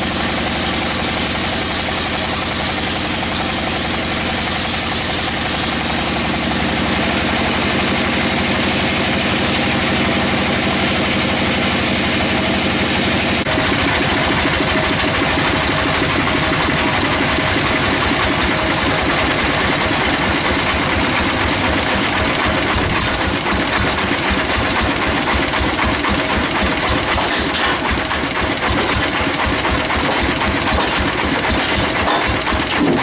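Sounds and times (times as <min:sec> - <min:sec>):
sawmill engine drone: 0:00.0 - 0:33.0.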